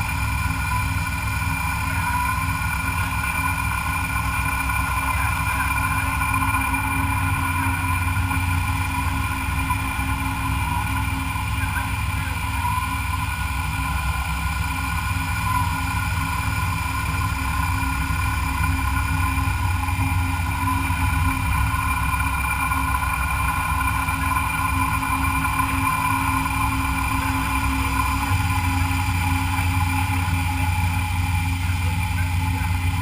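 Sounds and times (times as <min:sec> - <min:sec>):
milling machine whining: 0:00.0 - 0:33.0.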